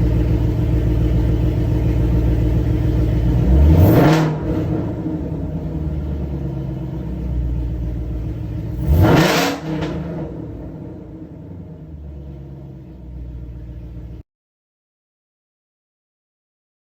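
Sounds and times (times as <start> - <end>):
car engine idling and revving: 0.0 - 14.2.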